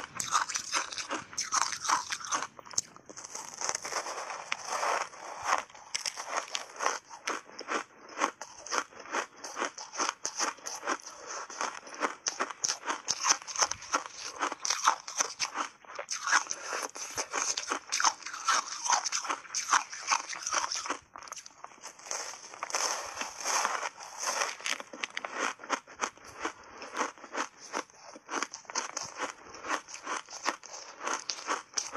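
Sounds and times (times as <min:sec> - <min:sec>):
ice block crunching being chewed: 0:00.0 - 0:31.9.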